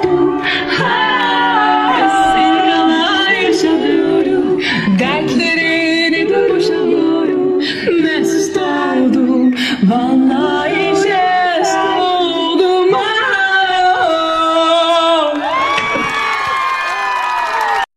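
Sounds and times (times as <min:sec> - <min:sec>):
singing voice with music: 0:00.0 - 0:15.7.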